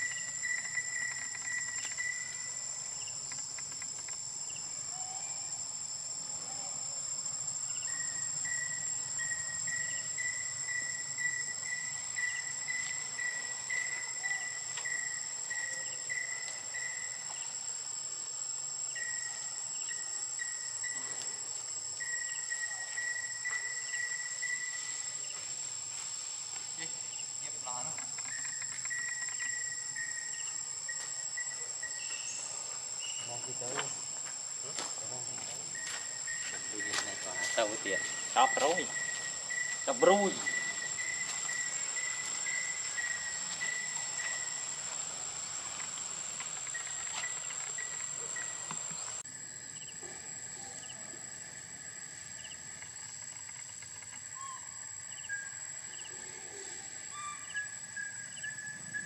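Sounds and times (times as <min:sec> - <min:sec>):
insects chirring: 0:00.0 - 0:59.0
low pulsing insect trill: 0:00.0 - 0:59.0.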